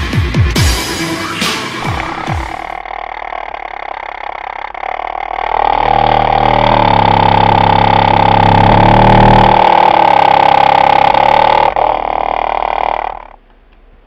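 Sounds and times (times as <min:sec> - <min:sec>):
harsh buzzing scratch: 0:01.6 - 0:13.4
subwoofer buzzing low bass tone: 0:01.8 - 0:14.0.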